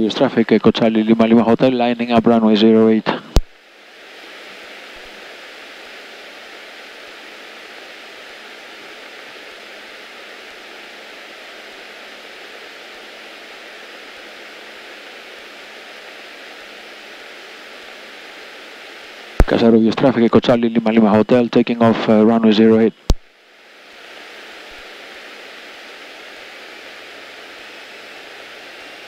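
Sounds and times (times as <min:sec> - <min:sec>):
cockpit intercom hiss: 0:00.0 - 0:29.0.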